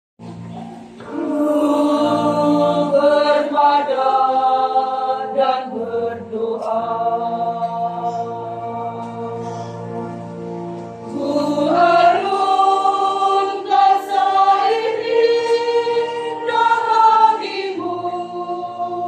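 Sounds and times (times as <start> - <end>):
choir singing a hymn: 0.4 - 19.0.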